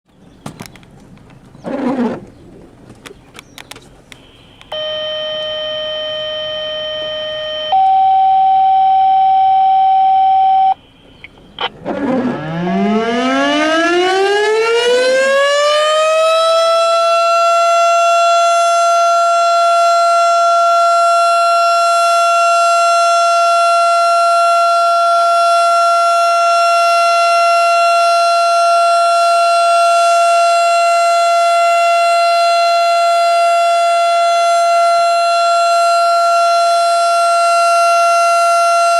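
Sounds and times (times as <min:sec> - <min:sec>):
long steady tones: 0:04.1 - 0:38.9
tornado warning siren wailing: 0:04.6 - 0:11.0, 0:11.6 - 0:38.9.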